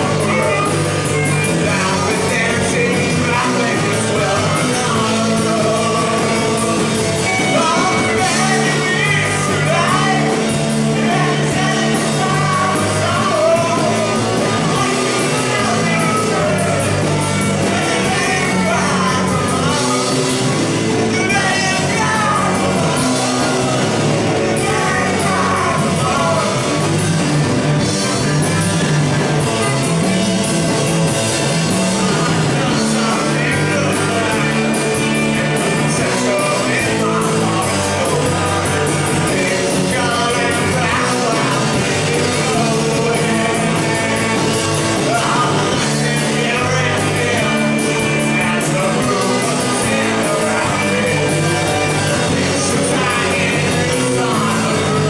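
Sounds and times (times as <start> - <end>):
person singing: 0.0 - 27.0, 31.9 - 55.0
bass guitar: 0.0 - 55.0
drums: 0.0 - 55.0
electric guitar: 0.0 - 55.0.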